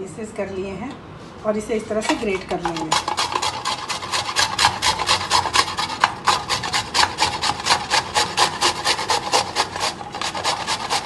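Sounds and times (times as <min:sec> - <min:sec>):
mango grated on metal grater: 0:02.0 - 0:11.0.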